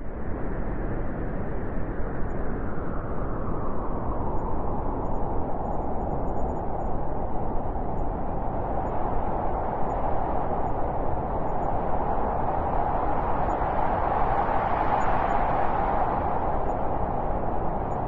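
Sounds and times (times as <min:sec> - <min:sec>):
blizzard wind rushing: 0:00.2 - 0:18.0.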